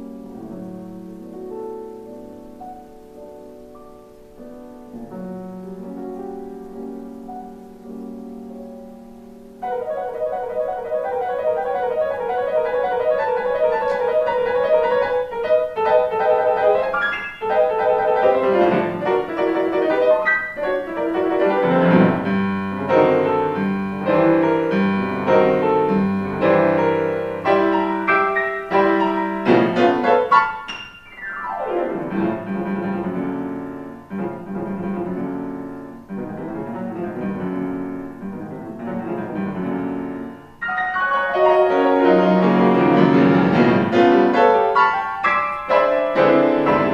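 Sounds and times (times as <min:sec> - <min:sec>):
solo piano classical piece: 0:00.0 - 0:46.9.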